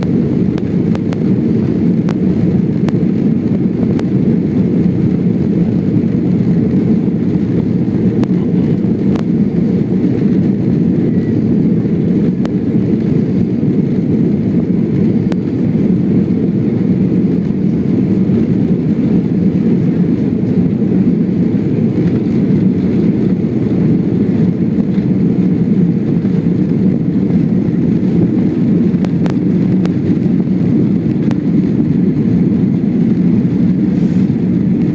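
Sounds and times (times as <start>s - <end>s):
jet engines low rumble: 0.0s - 34.9s.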